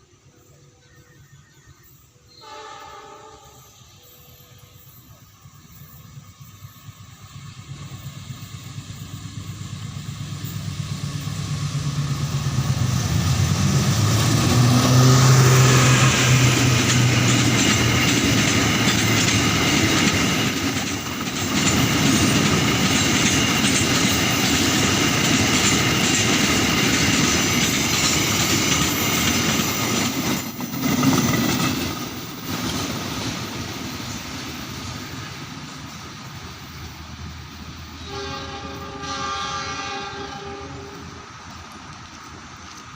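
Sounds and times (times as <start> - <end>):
train engine hum: 0.0 - 42.9
wheels clacking on rails: 4.0 - 42.9.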